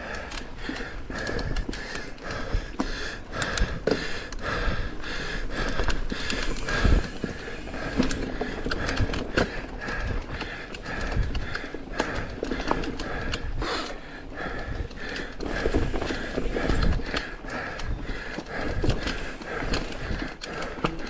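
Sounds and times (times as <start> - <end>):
bike clattering over bumps: 0.1 - 21.0.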